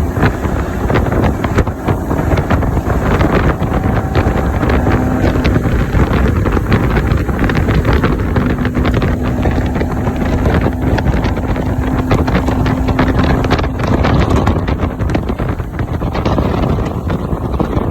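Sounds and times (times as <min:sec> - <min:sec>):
outboard motor hum: 0:00.0 - 0:17.9
wind buffeting on microphone: 0:00.0 - 0:17.9.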